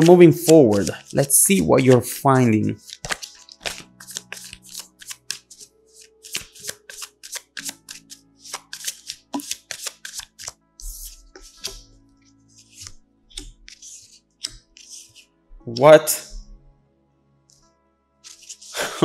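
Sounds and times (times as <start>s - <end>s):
cards being shuffled: 0.0s - 16.5s, 18.2s - 19.0s.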